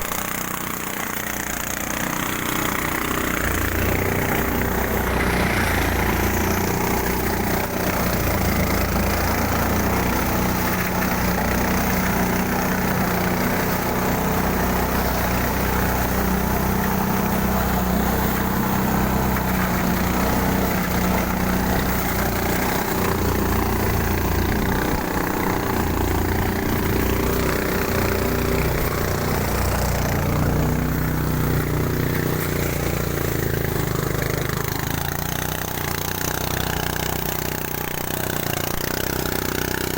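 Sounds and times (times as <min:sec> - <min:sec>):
threshing machine engine running: 0:00.0 - 0:39.9.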